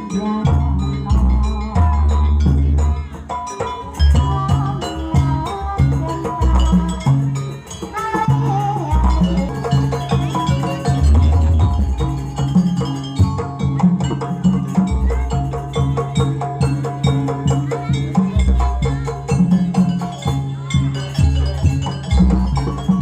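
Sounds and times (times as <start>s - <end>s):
drums: 0.0s - 23.0s
tuned metal percussion: 0.0s - 23.0s.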